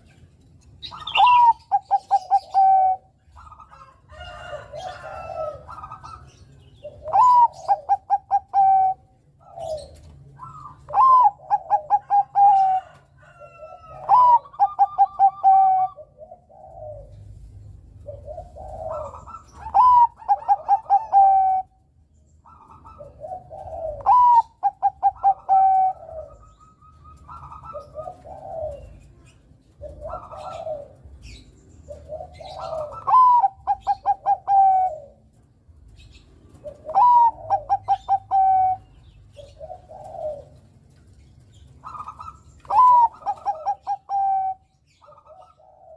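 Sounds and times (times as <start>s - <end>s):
dove cooing: 0.7s - 45.9s.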